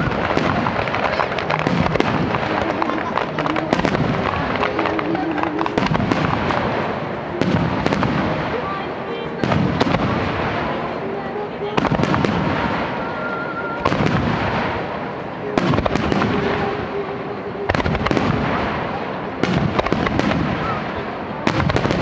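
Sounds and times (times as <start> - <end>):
firework bangs: 0.0 - 22.0
firework crackle and rumble: 0.0 - 22.0.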